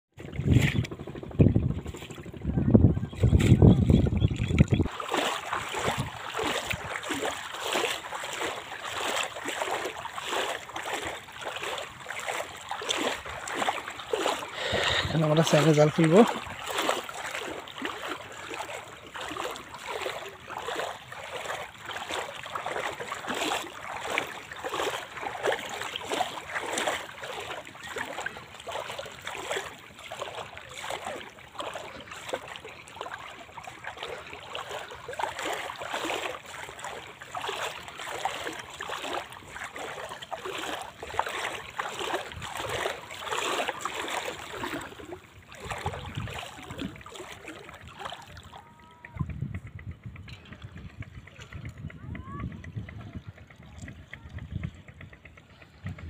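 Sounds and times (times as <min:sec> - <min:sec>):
water splashing and trickling: 0:00.1 - 0:56.0.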